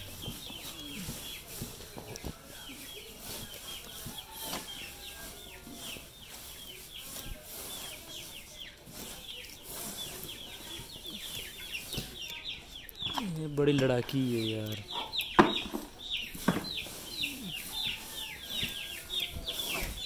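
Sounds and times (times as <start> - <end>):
birds chirping: 0.0 - 20.0
straw rustling as mixed by hand: 0.0 - 20.0.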